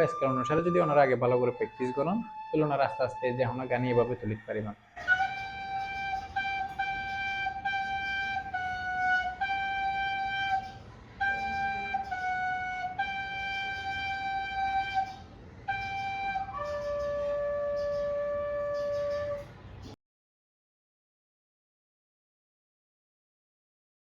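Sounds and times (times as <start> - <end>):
penny whistle melody: 0.0 - 19.5.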